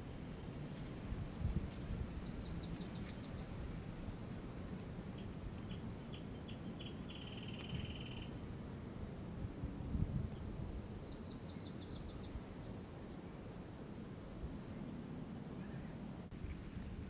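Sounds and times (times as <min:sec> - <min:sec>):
small birds singing: 0:00.0 - 0:08.4, 0:09.0 - 0:14.5.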